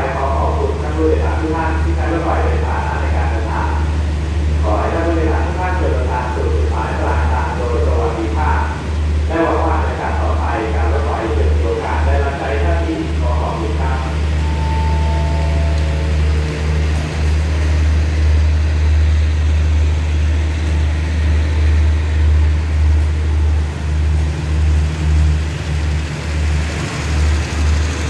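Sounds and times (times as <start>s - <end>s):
diesel train engine rumbling: 0.0s - 28.0s.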